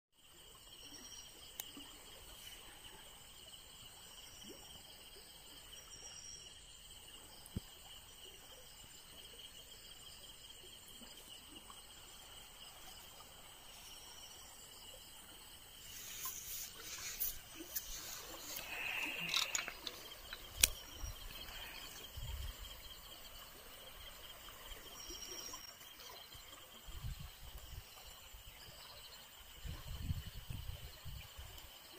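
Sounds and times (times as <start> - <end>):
crickets chirring: 0.2 - 31.9.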